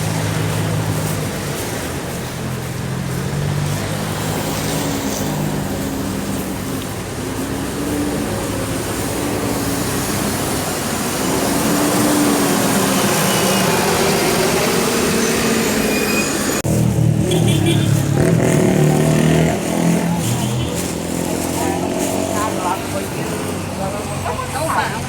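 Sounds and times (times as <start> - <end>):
road noise hiss: 0.0 - 25.0
vehicle engine humming: 0.0 - 25.0.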